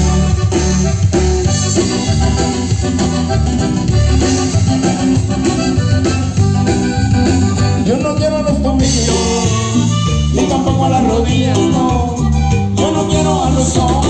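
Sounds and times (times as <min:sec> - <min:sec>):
guitar: 0:00.0 - 0:14.0
percussion: 0:00.0 - 0:14.0
praise band playing latin-style music: 0:00.0 - 0:14.0.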